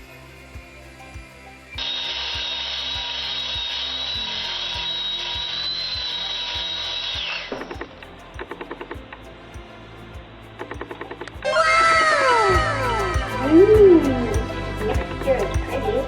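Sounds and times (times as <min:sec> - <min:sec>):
background music with beat: 0:00.0 - 0:16.0.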